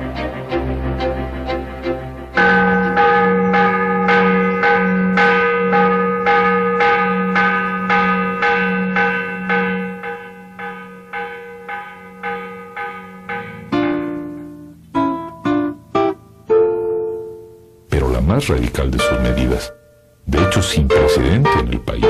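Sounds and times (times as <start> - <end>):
church bell tolling: 1.6 - 15.8, 17.1 - 22.0.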